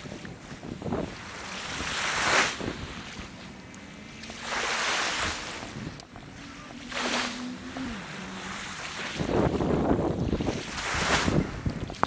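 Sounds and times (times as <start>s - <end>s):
small waves lapping at shore: 0.0s - 12.0s.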